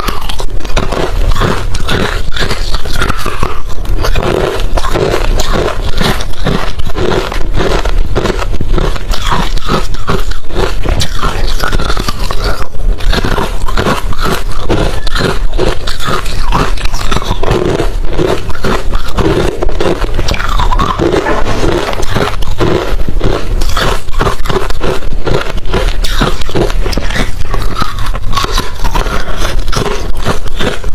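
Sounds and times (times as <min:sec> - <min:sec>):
crunching ice being chewed: 0:00.0 - 0:30.9.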